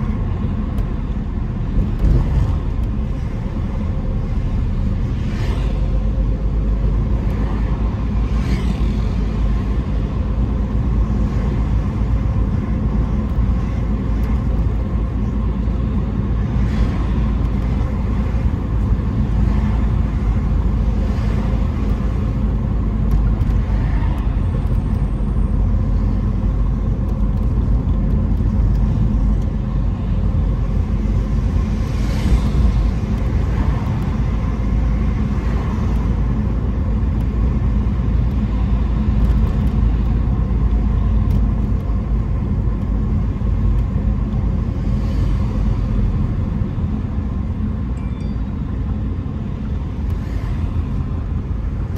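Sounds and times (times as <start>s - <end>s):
car engine and tyres rumbling: 0.0s - 51.9s
passing traffic: 0.0s - 51.9s.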